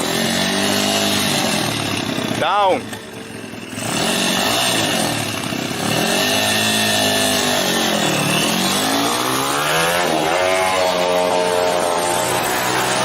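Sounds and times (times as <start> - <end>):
motorcycle engine running hard: 0.0 - 13.0.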